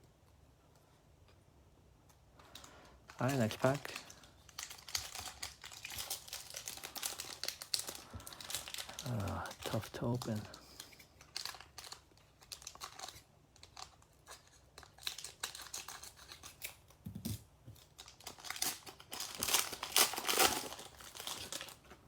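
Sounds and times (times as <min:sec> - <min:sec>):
wrapper crinkling and tearing: 0:02.5 - 0:17.0, 0:17.8 - 0:22.0.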